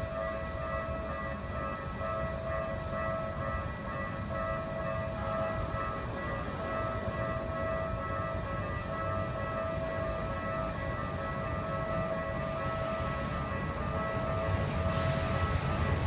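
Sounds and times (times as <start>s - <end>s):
level crossing warning bell ringing: 0.0s - 16.0s.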